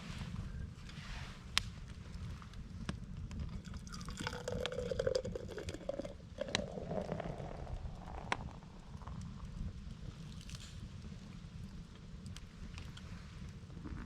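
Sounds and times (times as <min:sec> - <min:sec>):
campfire crackling: 0:00.0 - 0:14.0
low rumble: 0:02.4 - 0:14.0.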